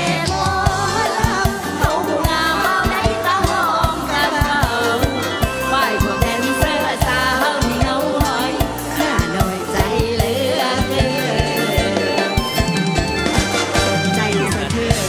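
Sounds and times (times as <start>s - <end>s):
fast drum beat: 0.0s - 15.0s
person singing: 0.0s - 15.0s.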